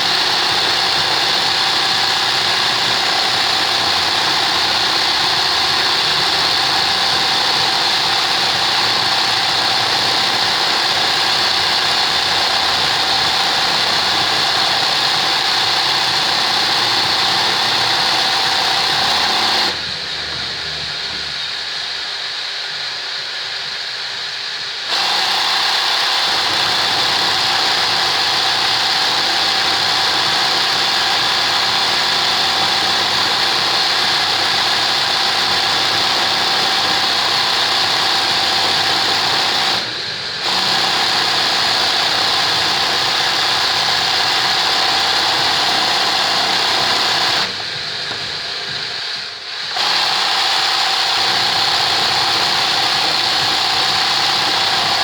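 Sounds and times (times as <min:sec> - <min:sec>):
sewing machine stitching: 0:00.0 - 0:21.7, 0:24.9 - 0:55.0
motor hum: 0:00.0 - 0:55.0.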